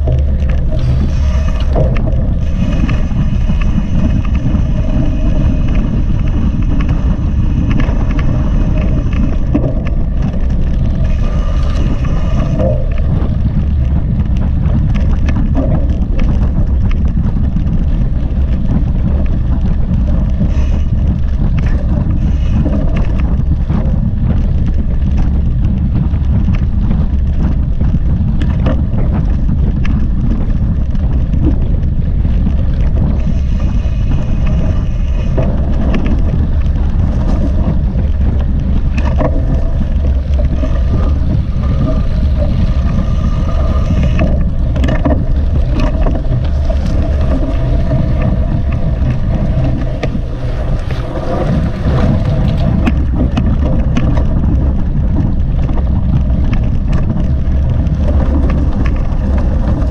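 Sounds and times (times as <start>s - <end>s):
mountain bike rumble on trail: 0.0s - 59.9s
wind buffeting microphone: 0.0s - 59.9s.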